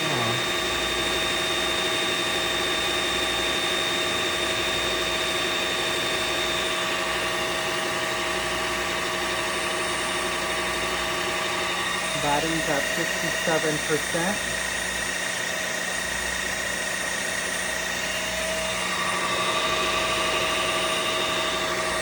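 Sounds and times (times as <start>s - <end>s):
floor washer motor whirring: 0.0s - 22.0s.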